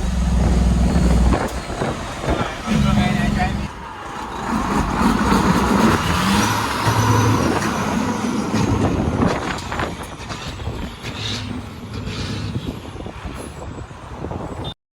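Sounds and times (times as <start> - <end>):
diesel truck engine running: 0.0 - 13.4.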